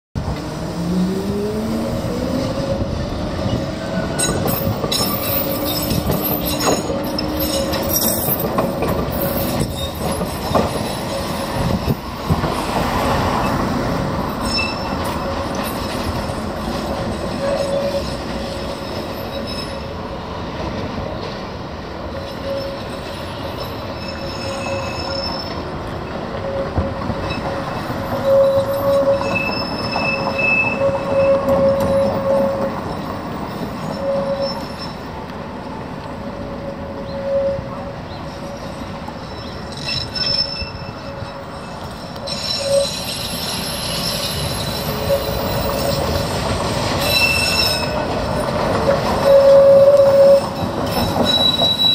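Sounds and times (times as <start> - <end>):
wheels squealing on curve: 0.7 - 20.0, 22.1 - 35.2, 36.6 - 51.9.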